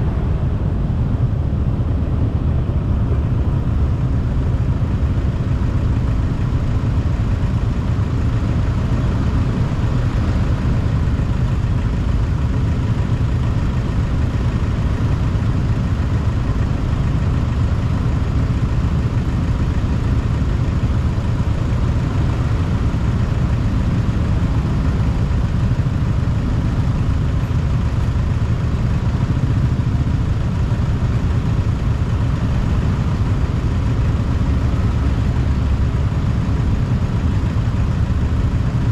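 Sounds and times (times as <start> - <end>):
motorbike engine rumbling: 0.0 - 38.9.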